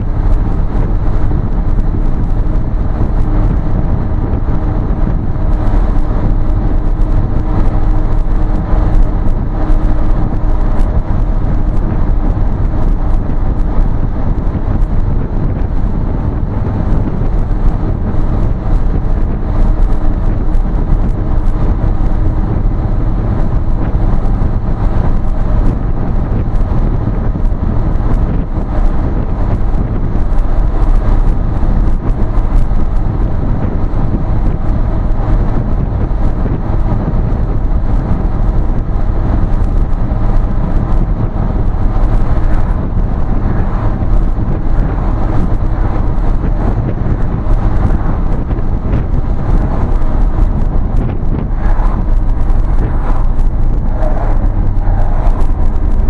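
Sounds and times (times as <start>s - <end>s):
road noise: 0.0s - 56.0s
vehicle engine and exhaust hum: 0.0s - 56.0s.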